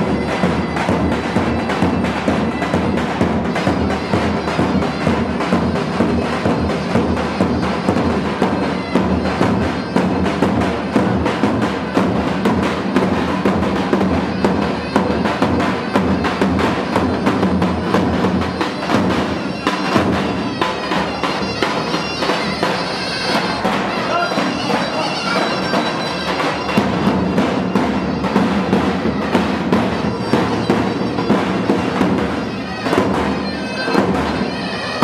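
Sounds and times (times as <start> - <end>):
drum beating fast rhythm: 0.0 - 35.0
shrill reed wind instrument: 0.0 - 35.0.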